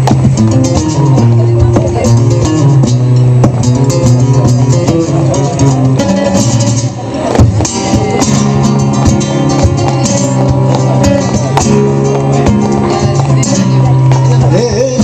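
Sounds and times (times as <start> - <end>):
flamenco guitars playing: 0.0 - 15.0.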